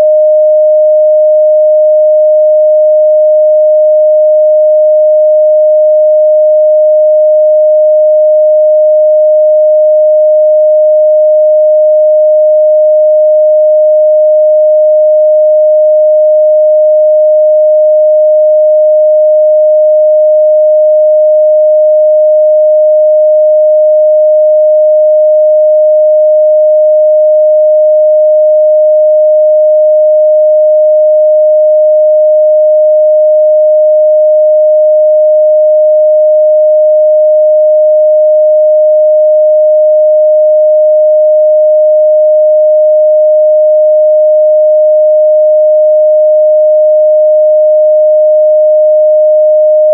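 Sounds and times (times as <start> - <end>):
pure sine test tone: 0.0 - 49.9.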